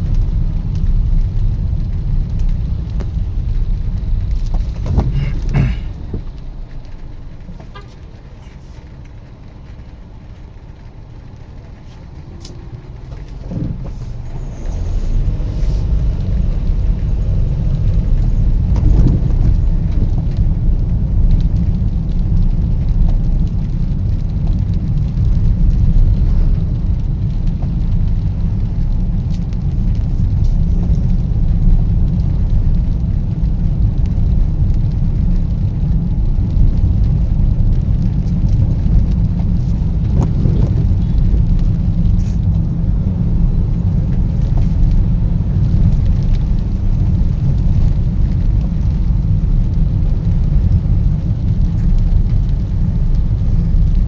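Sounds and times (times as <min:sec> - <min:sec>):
loud low rumble: 0:00.0 - 0:54.0
rain ticking: 0:00.0 - 0:54.0.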